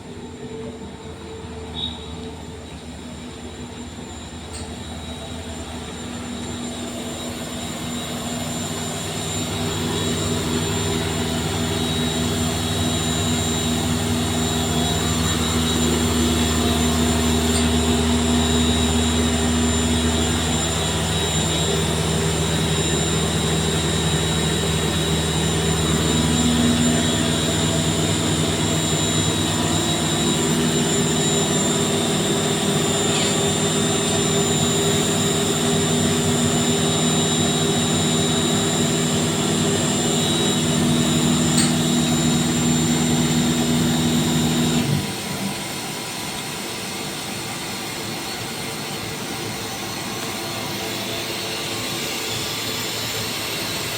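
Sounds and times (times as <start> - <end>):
air compressor humming and whining: 0.0 - 53.9.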